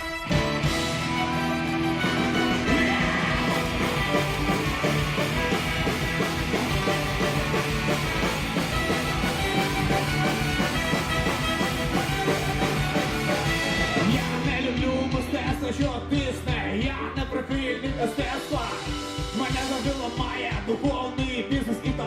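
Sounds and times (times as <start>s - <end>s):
bass guitar: 0.0s - 22.0s
drums beating: 0.0s - 22.0s
electric guitars: 0.0s - 22.0s.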